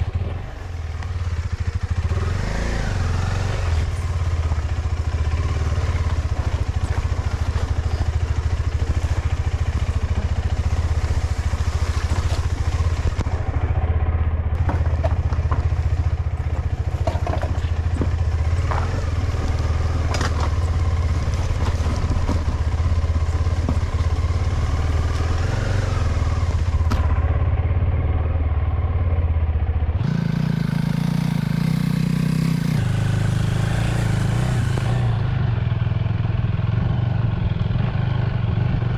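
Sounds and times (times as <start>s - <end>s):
knocks and clatter from motorcycle: 0.0s - 29.0s, 30.0s - 38.9s
motorcycle engine running: 0.0s - 38.9s.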